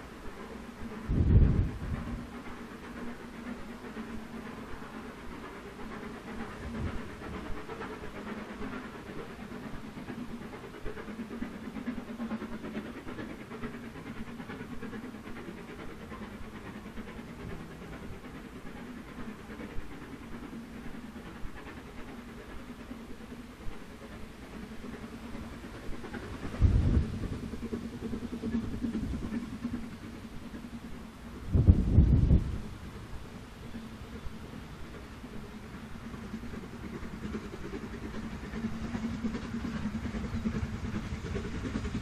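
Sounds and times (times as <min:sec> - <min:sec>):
steam locomotive chuffing: 0:00.0 - 0:42.0.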